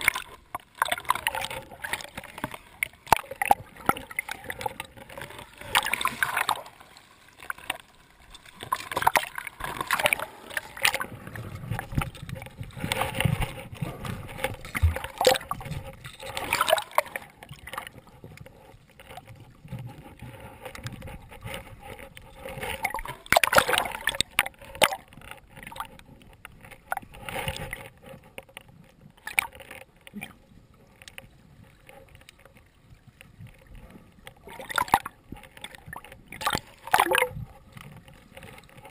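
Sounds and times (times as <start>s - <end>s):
seawater sloshing and splashing: 0.0s - 38.9s.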